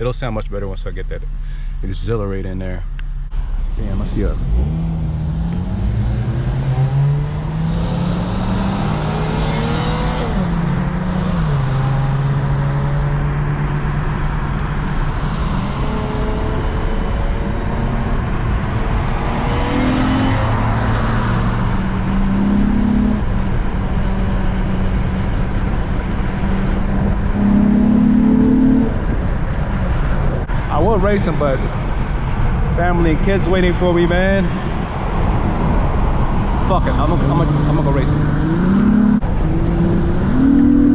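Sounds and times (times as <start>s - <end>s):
car engine with raspy exhaust: 0.0s - 40.9s
passing traffic: 0.0s - 40.9s.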